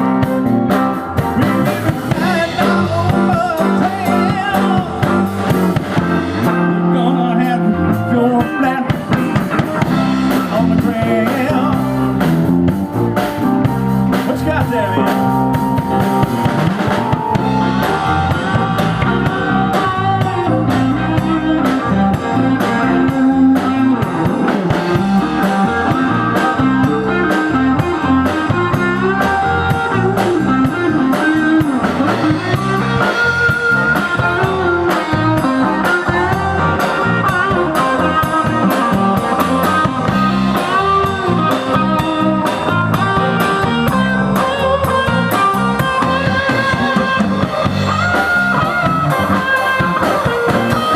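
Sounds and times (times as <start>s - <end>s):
blues electric guitar lead: 0.0s - 50.9s
rock band playing: 0.0s - 50.9s.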